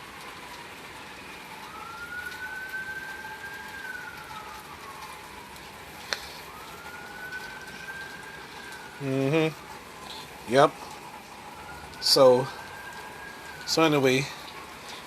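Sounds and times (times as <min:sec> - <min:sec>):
emergency vehicle siren wailing: 0:00.0 - 0:15.0
rain hissing: 0:00.0 - 0:15.0.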